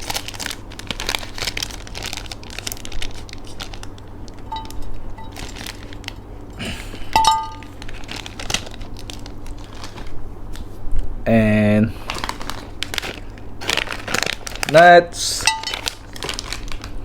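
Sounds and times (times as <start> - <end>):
plastic snack packets crinkling: 0.0 - 6.2, 7.4 - 10.2, 11.9 - 17.0.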